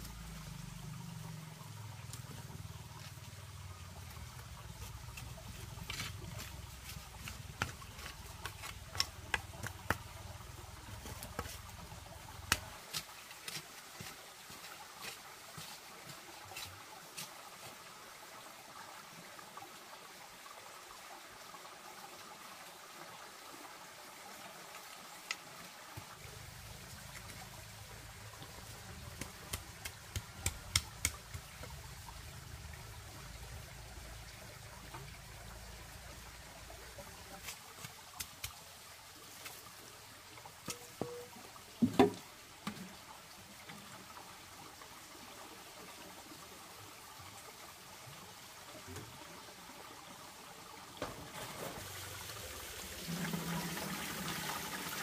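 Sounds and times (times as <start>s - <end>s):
faint steady hiss: 0.0s - 55.0s.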